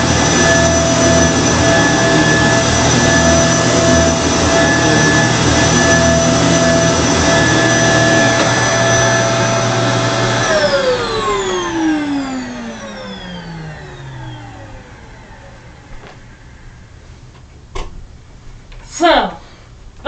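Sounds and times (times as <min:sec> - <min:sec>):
vacuum cleaner motor whine: 0:00.0 - 0:16.9.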